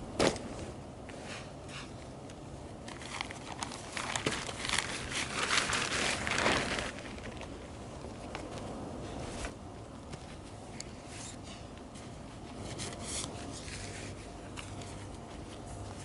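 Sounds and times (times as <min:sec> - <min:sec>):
rustling and crinkling: 0:02.8 - 0:16.0.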